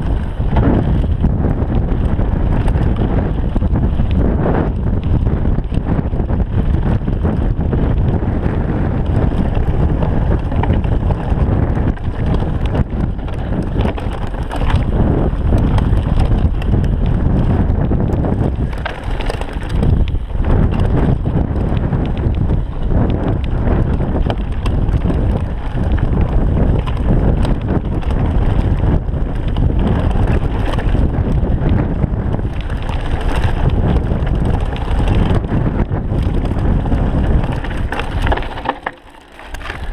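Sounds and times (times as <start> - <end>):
bike knocking and rattling: 0.0 - 39.9
wind rumble on microphone: 0.0 - 39.9.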